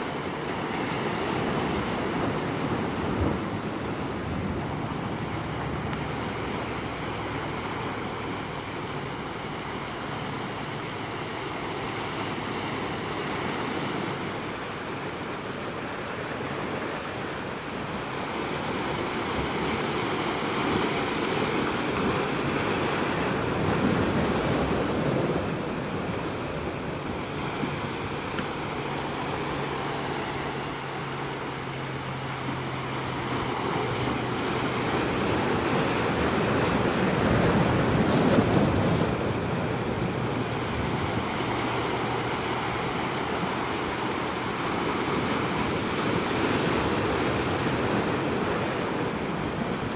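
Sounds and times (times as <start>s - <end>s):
ocean surf breaking on rocks: 0.0s - 49.9s.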